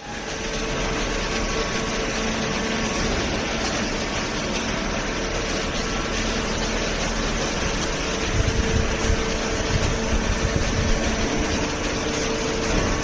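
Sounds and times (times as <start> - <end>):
baler machinery humming: 0.0 - 13.0.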